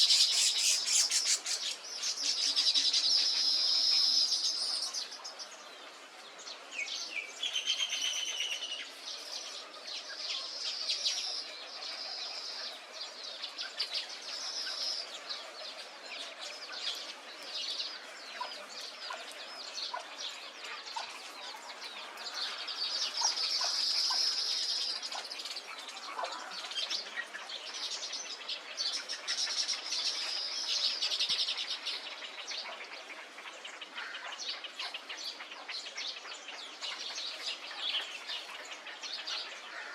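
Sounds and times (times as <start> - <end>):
chorus of many birds calling: 0.0 - 39.9.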